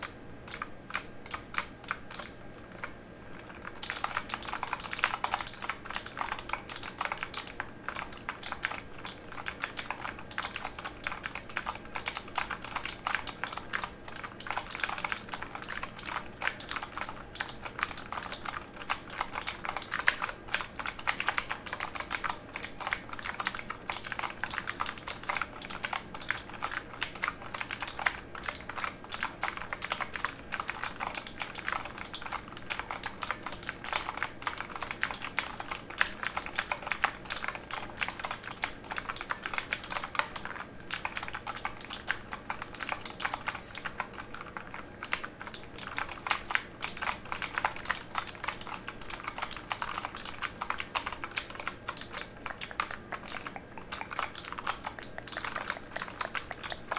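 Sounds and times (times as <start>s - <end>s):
mechanical keyboard typing: 0.0s - 56.9s.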